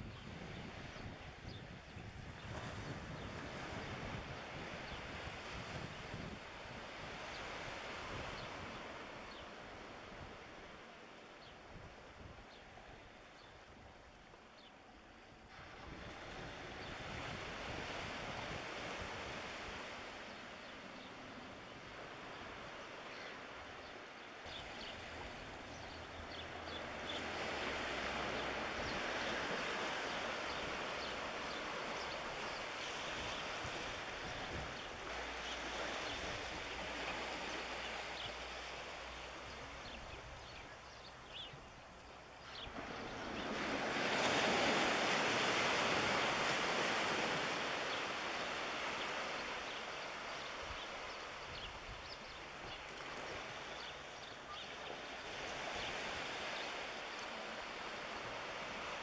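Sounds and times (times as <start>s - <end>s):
small waves at shoreline: 0.0s - 59.0s
wind: 0.0s - 59.0s.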